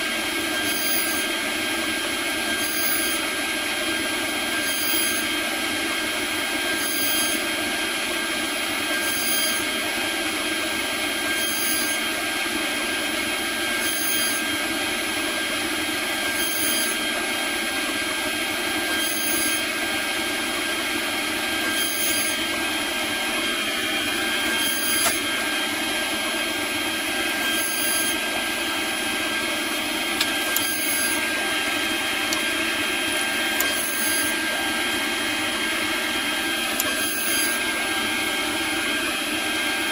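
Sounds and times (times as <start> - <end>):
plastic chips hissing off cutter: 0.0 - 5.4, 6.6 - 7.5, 8.8 - 9.8, 11.2 - 12.2, 12.8 - 14.8, 15.7 - 17.0, 18.7 - 39.2
router spindle whining: 0.0 - 39.9.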